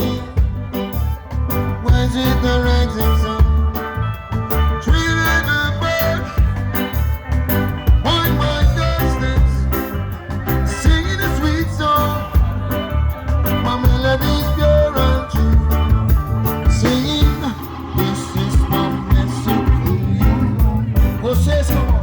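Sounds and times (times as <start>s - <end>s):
reggae band playing: 0.0s - 22.0s.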